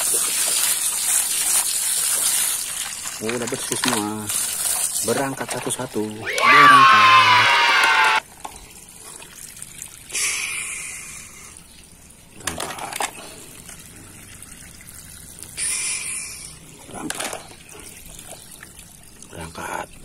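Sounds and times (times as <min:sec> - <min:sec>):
water gushing from garden hose: 0:00.0 - 0:11.6, 0:12.3 - 0:19.8.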